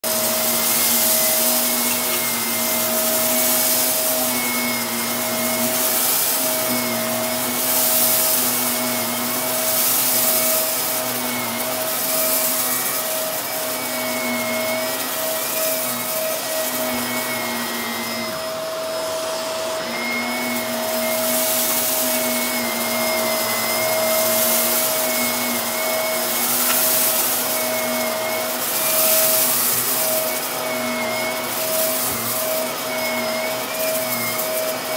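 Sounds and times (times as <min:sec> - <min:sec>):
vacuum cleaner running: 0:00.0 - 0:34.9
rice crunching: 0:00.1 - 0:18.4, 0:20.2 - 0:34.9.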